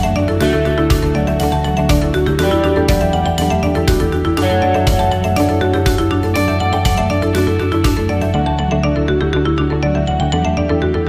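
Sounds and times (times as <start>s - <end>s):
bright tune of struck notes: 0.0s - 10.6s
steady bass line: 0.0s - 11.0s.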